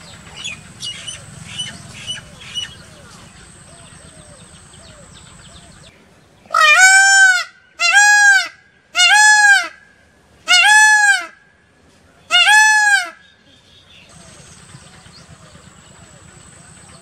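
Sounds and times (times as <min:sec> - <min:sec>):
peacock calling: 0:00.0 - 0:09.8, 0:10.5 - 0:11.4, 0:12.3 - 0:17.0.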